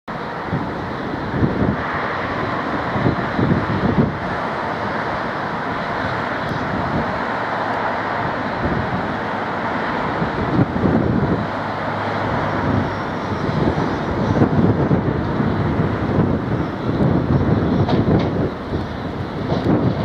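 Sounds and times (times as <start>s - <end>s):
train rumbling over points: 0.1s - 20.0s.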